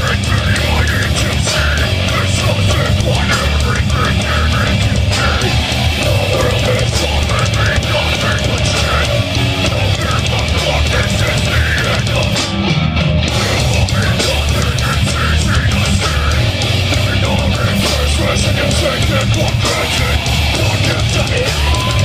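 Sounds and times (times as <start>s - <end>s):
metal band playing live: 0.0s - 22.0s.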